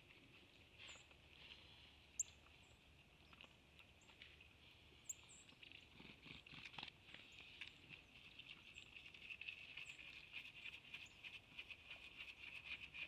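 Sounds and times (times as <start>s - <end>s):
deer hooves pattering and tapping: 2.4s - 13.0s.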